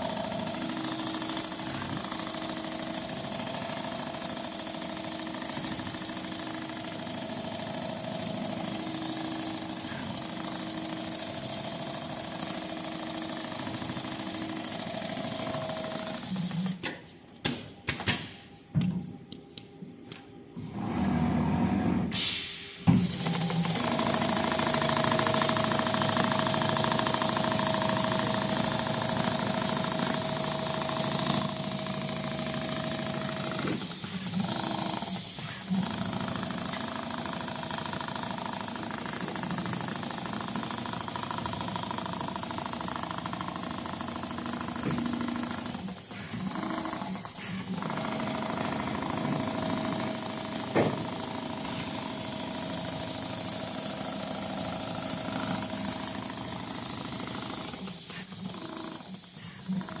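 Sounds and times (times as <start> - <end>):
sewing machine stitching: 0.0 - 16.8, 23.0 - 57.7.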